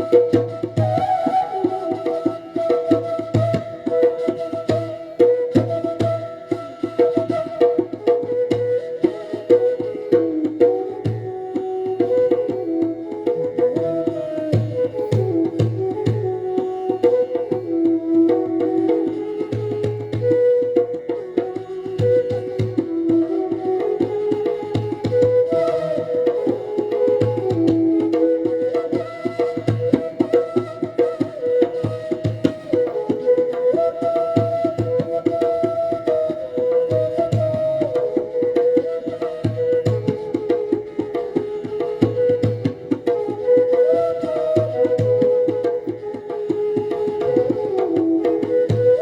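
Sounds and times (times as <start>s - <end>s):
instrumental melody line: 0.0s - 49.0s
tabla strokes: 0.0s - 49.0s.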